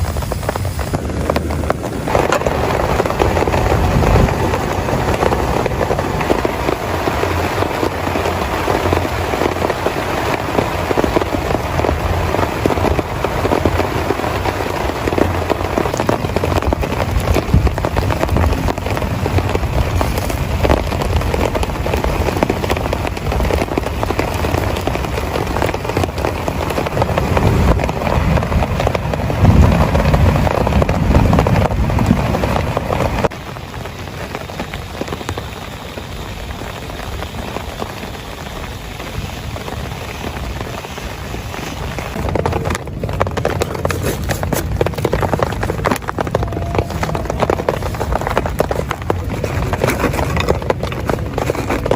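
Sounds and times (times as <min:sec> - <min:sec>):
heavy rain on a tent: 0:00.0 - 0:51.9.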